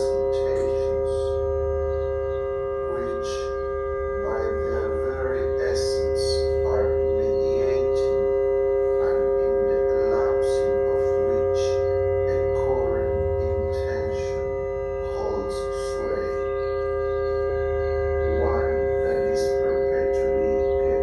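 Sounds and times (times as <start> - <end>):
low hum: 0.0 - 21.0
synthesiser drone: 0.0 - 21.0.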